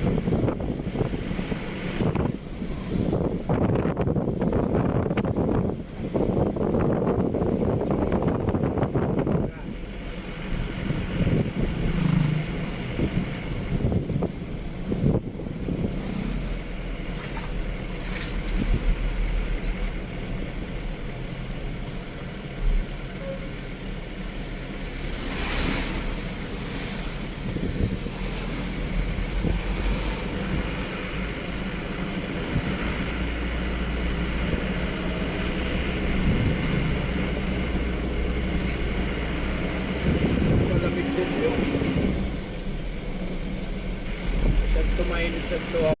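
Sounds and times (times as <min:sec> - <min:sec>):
wind noise: 0:00.0 - 0:21.0, 0:25.0 - 0:44.7
vehicle engine and road rumble: 0:00.0 - 0:46.0.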